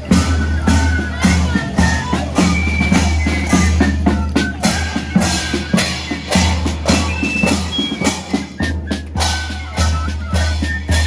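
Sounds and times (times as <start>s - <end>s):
marching drums: 0.0s - 11.0s.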